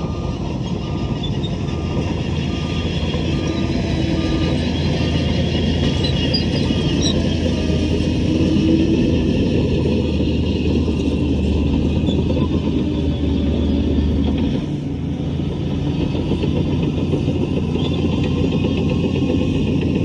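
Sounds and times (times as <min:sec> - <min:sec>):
diesel machinery engine running: 0:00.0 - 0:20.0.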